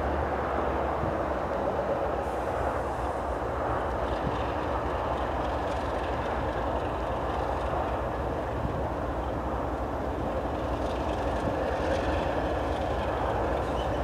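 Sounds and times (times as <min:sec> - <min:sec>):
diesel locomotive engine drone: 0:00.0 - 0:14.0
train rumble: 0:00.0 - 0:14.0.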